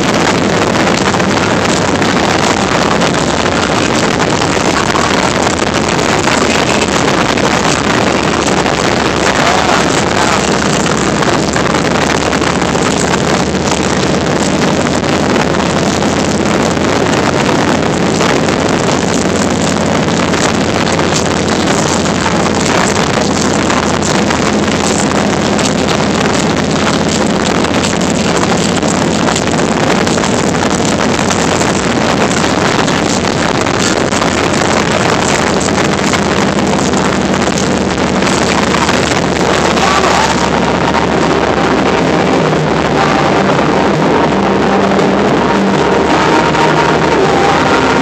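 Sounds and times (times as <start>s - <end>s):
motorcycle engine running: 0.0s - 48.0s
wind rushing over microphone: 0.0s - 48.0s.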